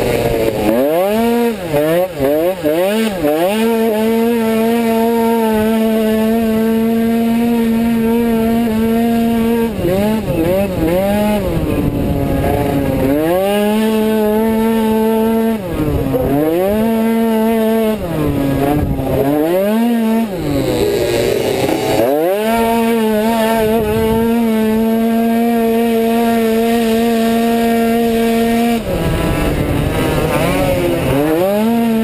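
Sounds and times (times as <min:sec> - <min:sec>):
scooter engine at full throttle: 0:00.0 - 0:32.0.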